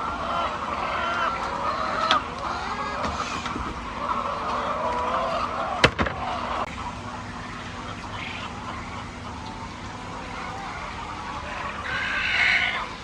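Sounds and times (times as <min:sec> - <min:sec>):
hens calling: 0:00.0 - 0:13.0
steady low hum: 0:00.0 - 0:13.0.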